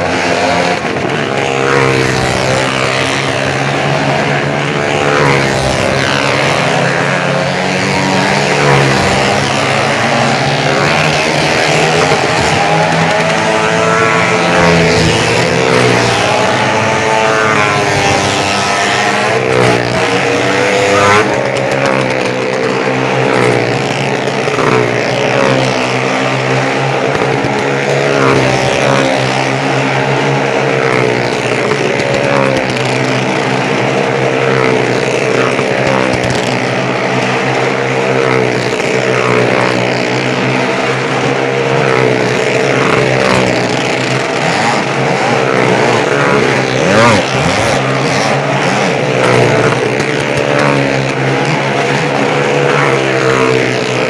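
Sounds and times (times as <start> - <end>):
motorcycle engines running hard: 0.0 - 54.0.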